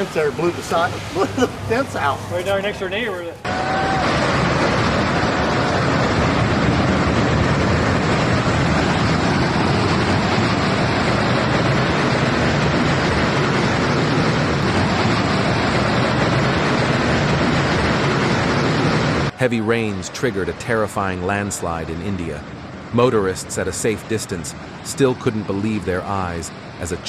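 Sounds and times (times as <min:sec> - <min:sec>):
wind buffeting microphone: 0:00.0 - 0:23.1
storm wind blowing: 0:00.0 - 0:27.0.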